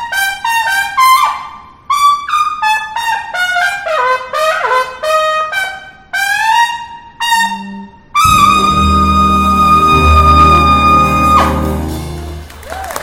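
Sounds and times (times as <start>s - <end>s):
solo trumpet playing: 0.0s - 12.6s.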